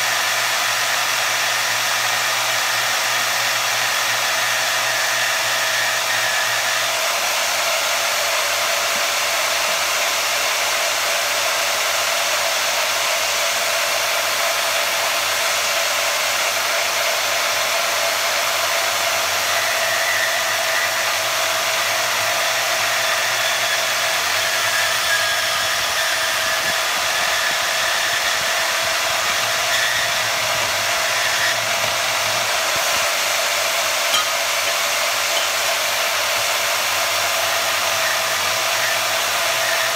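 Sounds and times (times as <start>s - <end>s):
bandsaw whirring: 0.0s - 39.9s.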